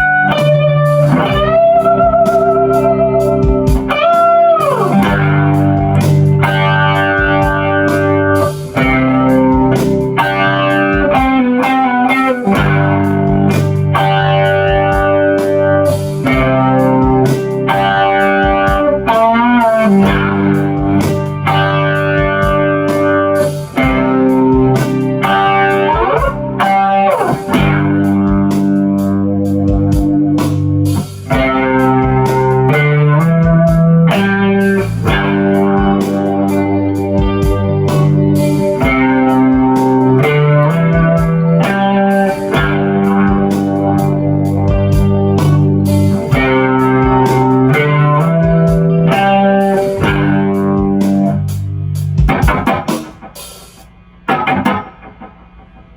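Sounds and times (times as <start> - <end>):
electric guitar chords with delay: 0.0 - 53.5, 54.1 - 55.9.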